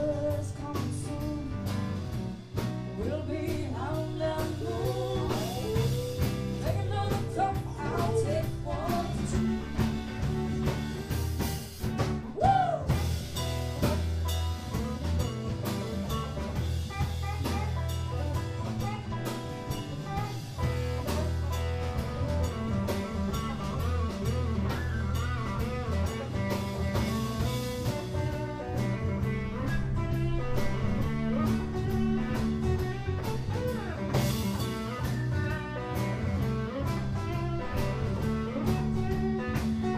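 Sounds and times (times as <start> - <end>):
drum kit: 0.0 - 39.9
electric and acoustic guitars: 0.0 - 39.9
electric bass guitar: 0.0 - 39.9
guitar bending gliding notes: 0.0 - 39.9.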